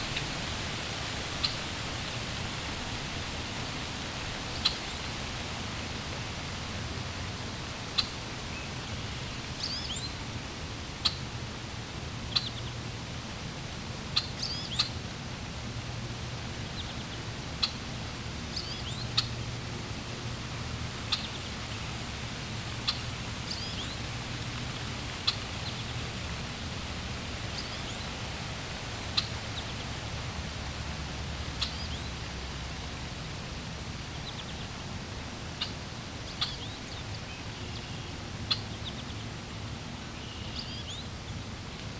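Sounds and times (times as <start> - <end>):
flowing water: 0.0 - 41.9.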